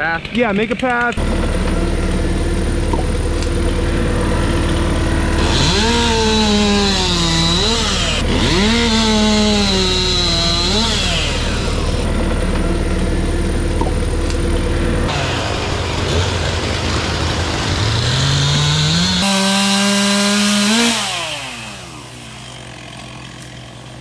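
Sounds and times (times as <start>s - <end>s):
chainsaw revving and cutting: 0.0s - 24.0s
engine idling: 0.3s - 24.0s.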